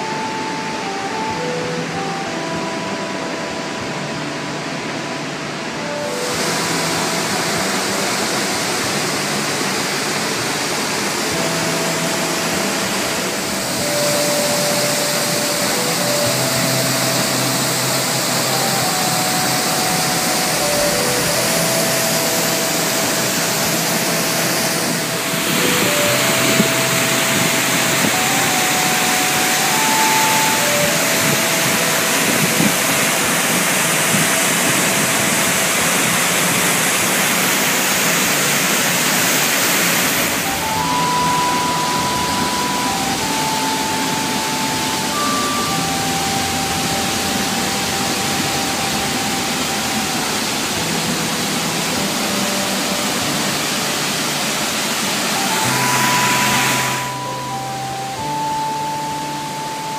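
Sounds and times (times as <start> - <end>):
faint slow melody: 0.0 - 59.9
waterfall rushing: 0.0 - 59.9.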